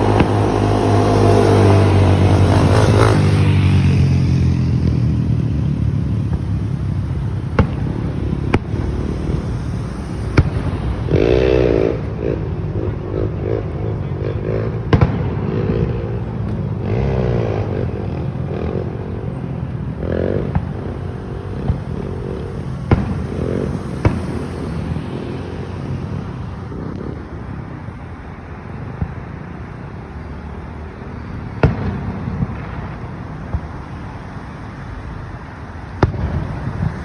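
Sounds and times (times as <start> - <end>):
fireworks bangs: 0.0 - 34.8, 35.8 - 37.0.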